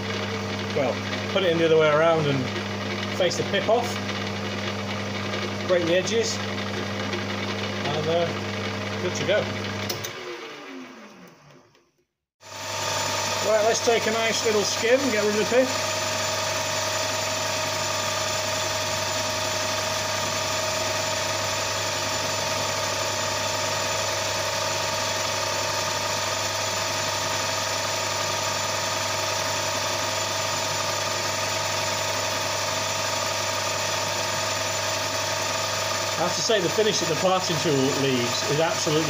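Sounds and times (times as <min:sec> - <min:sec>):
metal lathe running: 0:00.0 - 0:11.1, 0:12.4 - 0:39.0.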